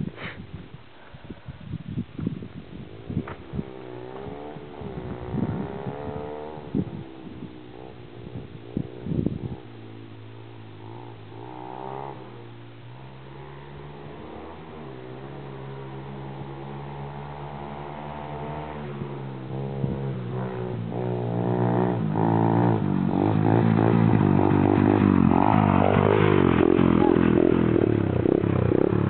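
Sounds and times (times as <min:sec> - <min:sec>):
dirt bike engine revving: 0:03.0 - 0:09.2, 0:09.8 - 0:29.0.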